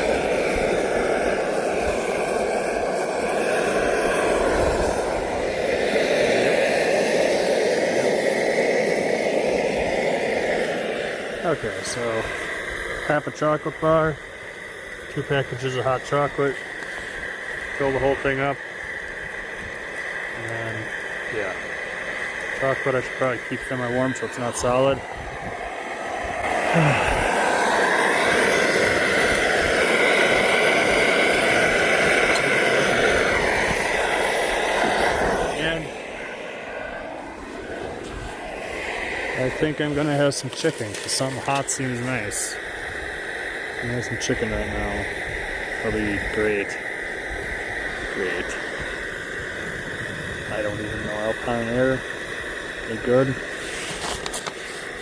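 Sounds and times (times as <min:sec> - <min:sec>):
stove burner running: 0:00.0 - 0:55.0.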